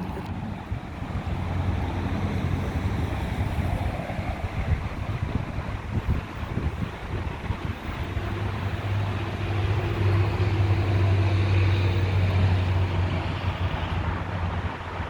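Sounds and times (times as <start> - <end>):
outdoor noise: 0.0 - 15.0
vehicle engine humming: 0.0 - 15.0.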